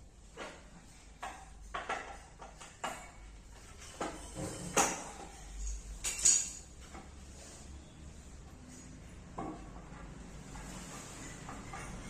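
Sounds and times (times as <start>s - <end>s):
bed frame parts clinking: 0.3s - 7.2s, 8.9s - 12.0s.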